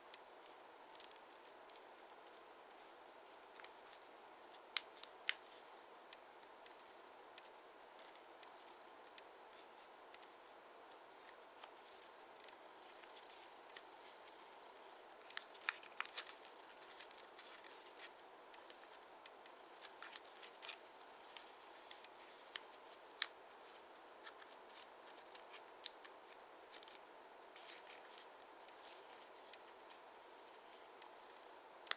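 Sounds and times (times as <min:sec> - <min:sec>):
faint steady hiss: 0:00.0 - 0:31.9
paper being folded and creased: 0:00.1 - 0:05.7, 0:08.0 - 0:14.5, 0:15.2 - 0:19.1, 0:19.7 - 0:27.0, 0:27.6 - 0:30.9.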